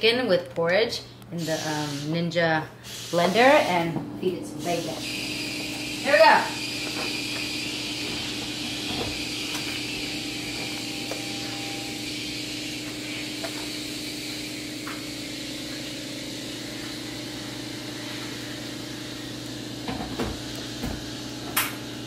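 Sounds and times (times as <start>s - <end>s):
machine hum and hiss: 1.1s - 22.0s.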